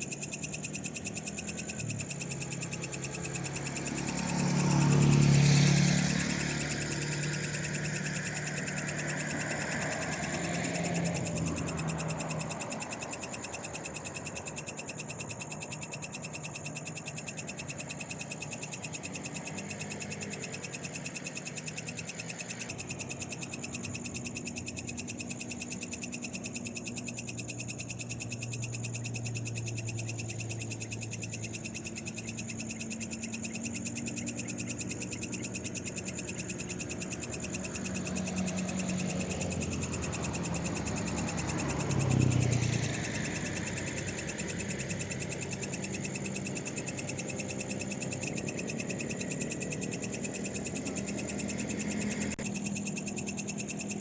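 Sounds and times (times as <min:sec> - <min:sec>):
frogs trilling: 0:00.0 - 0:54.0.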